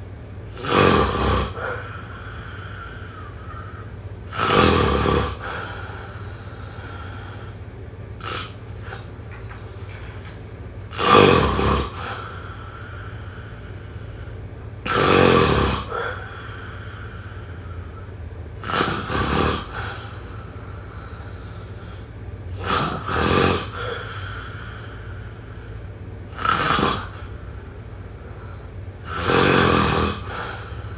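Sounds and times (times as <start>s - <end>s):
steady low hum: 0.0s - 30.9s
person snoring: 0.5s - 7.6s, 8.2s - 30.9s.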